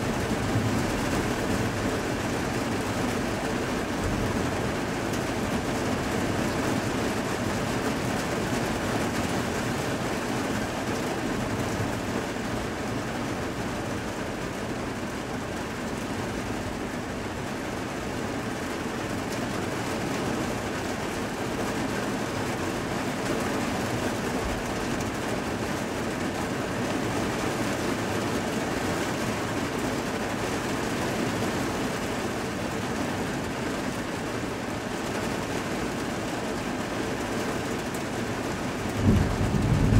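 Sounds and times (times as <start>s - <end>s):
heavy rain on window: 0.0s - 39.9s.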